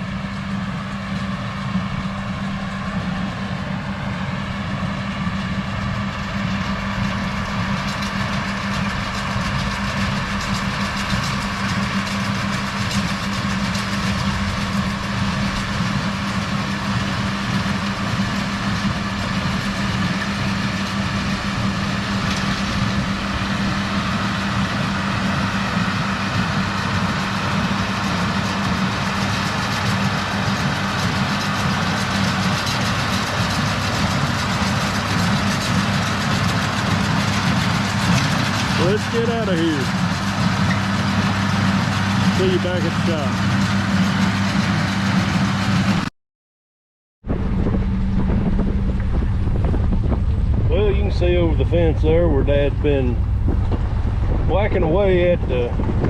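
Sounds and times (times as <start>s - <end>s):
vehicle engine idling: 0.0s - 46.1s, 47.2s - 56.0s.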